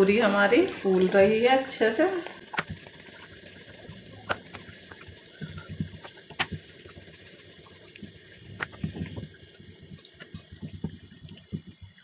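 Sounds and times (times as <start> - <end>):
deep-frying sizzle: 0.0 - 12.0
oil popping: 0.0 - 12.0.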